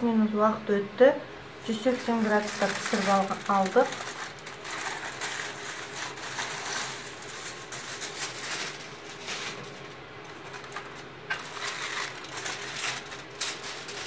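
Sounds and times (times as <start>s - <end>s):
aluminium foil crinkling: 1.6s - 14.0s.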